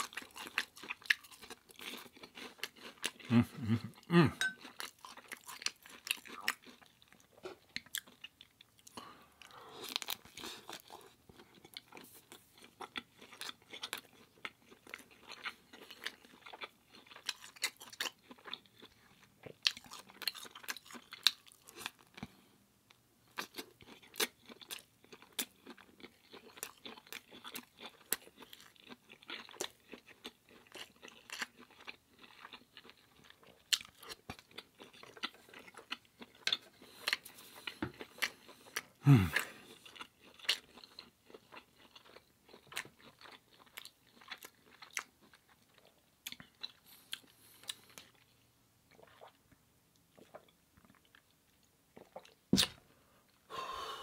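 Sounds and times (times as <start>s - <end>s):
chewing and crunching food: 0.0s - 53.4s.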